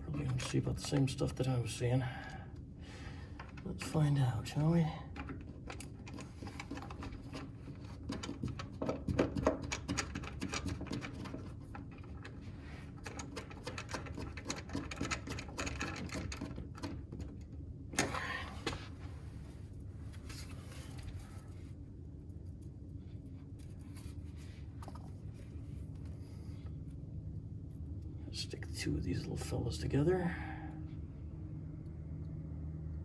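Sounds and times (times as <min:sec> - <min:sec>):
cable handling clicks and rustles: 0:00.0 - 0:01.5, 0:02.2 - 0:28.1.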